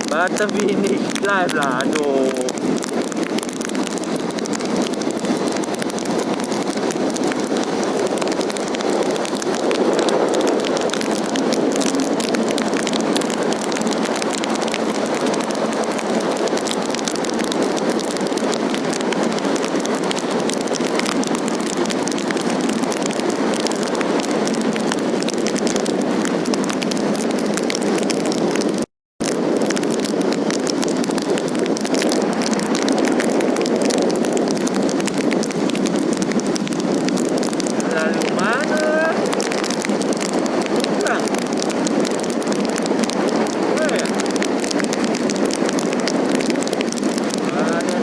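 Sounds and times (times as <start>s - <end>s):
rain hitting microphone: 0.0s - 48.0s.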